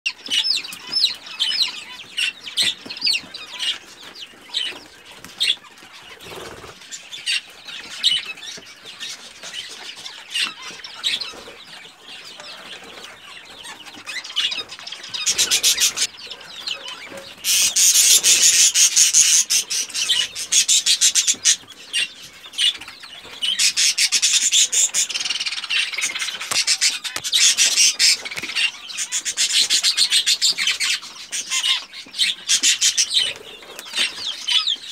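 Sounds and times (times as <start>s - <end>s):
chicks peeping: 0.1s - 34.9s
chicks scratching and pecking: 0.1s - 34.9s.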